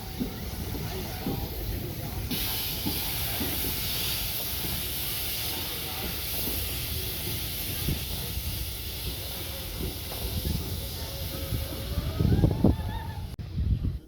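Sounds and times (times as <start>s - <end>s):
steam hissing: 0.0s - 13.4s.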